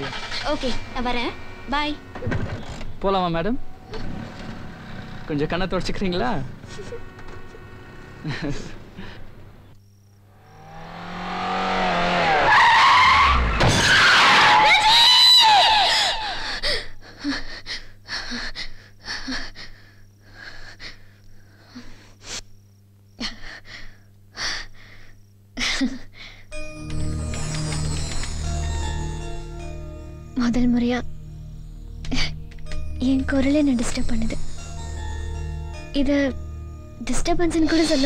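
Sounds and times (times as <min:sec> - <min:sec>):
steady low hum: 0:00.0 - 0:10.6, 0:16.4 - 0:38.0.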